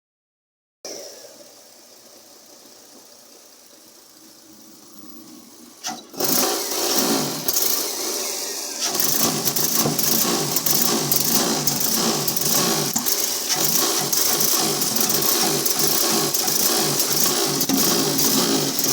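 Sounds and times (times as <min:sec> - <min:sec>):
engine misfiring: 0:00.9 - 0:18.9
engine starting: 0:00.9 - 0:18.9.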